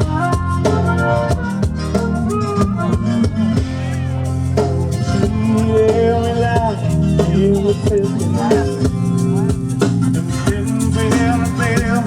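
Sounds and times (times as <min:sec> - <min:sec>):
drum kit: 0:00.0 - 0:12.0
guitar: 0:00.0 - 0:12.0
shaker: 0:00.0 - 0:12.0.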